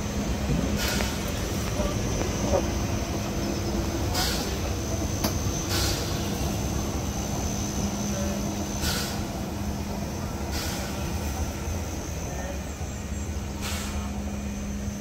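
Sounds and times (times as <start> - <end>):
steam hissing: 0.0 - 15.0
steam locomotive rumbling: 0.0 - 15.0.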